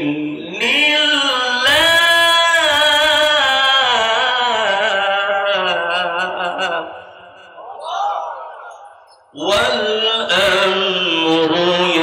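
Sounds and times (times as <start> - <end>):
man reciting in melodic chant: 0.0 - 12.0.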